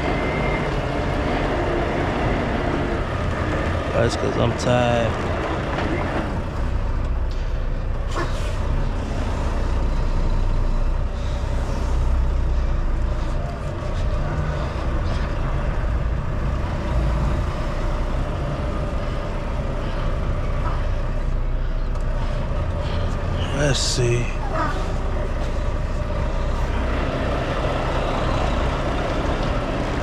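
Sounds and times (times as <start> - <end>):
diesel truck engine rumbling: 0.0 - 30.0.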